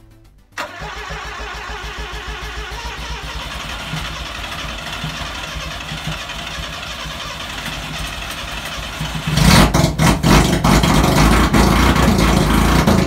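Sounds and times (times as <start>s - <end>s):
rotary engine idling: 0.6s - 13.0s.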